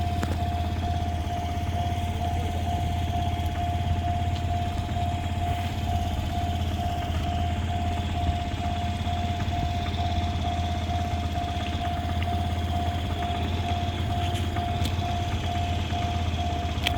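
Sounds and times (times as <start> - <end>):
level-crossing warning bell: 0.0 - 16.9
steady low rumble: 0.0 - 16.9.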